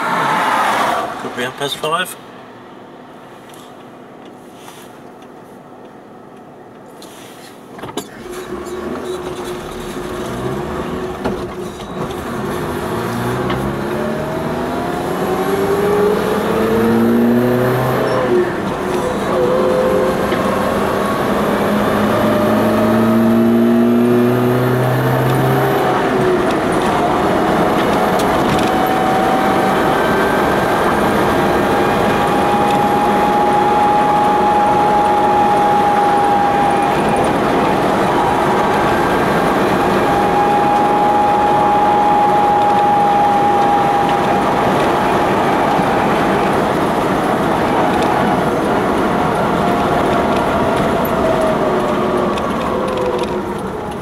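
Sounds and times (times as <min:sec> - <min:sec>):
tyre and road noise: 0:00.0 - 0:54.0
vehicle engine accelerating: 0:08.1 - 0:54.0.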